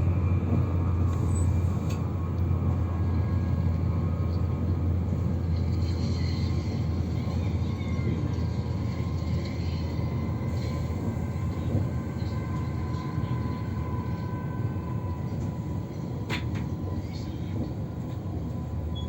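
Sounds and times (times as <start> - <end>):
train rumbling at speed: 0.0 - 19.0.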